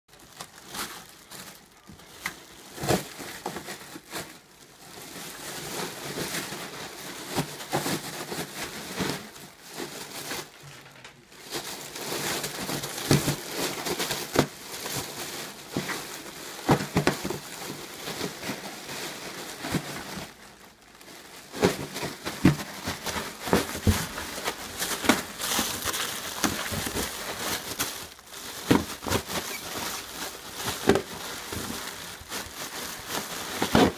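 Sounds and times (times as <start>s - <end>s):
plastic packaging crinkling: 0.1s - 33.9s.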